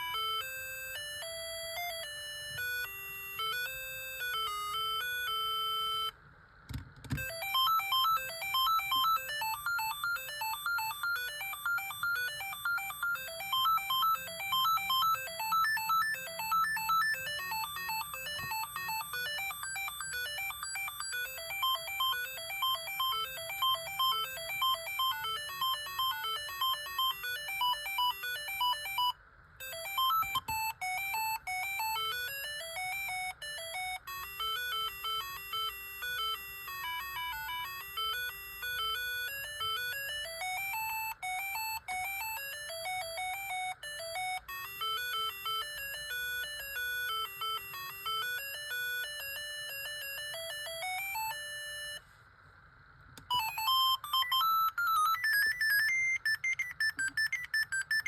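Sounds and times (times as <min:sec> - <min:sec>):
mobile phone ringtone melodies: 0:00.0 - 0:06.2, 0:07.2 - 0:52.0, 0:53.3 - 0:58.0.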